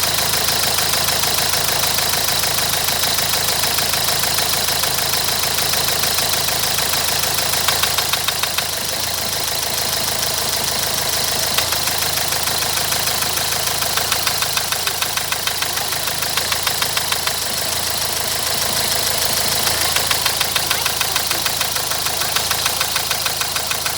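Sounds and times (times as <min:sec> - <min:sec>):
diesel engine running: 0:00.0 - 0:23.9
rapid regular engine knock: 0:00.0 - 0:23.9.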